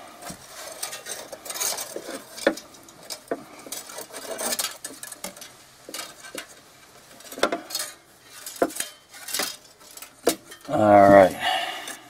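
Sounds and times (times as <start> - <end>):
metal wire clicking and scraping: 0.0 - 12.0.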